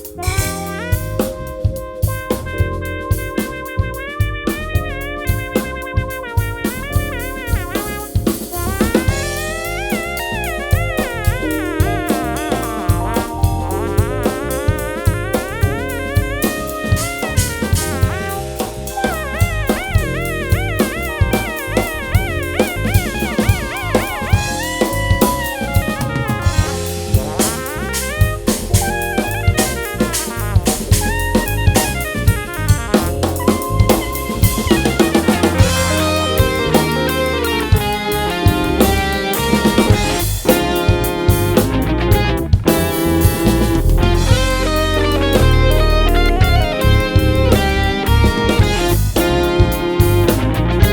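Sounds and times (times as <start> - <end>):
bass: 0.0 - 50.9
drum kit beat: 0.0 - 50.9
keyboard chords: 0.0 - 50.9.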